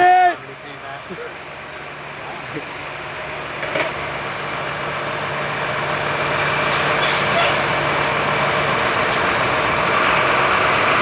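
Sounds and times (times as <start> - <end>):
tractor diesel engine running: 0.5 - 11.0.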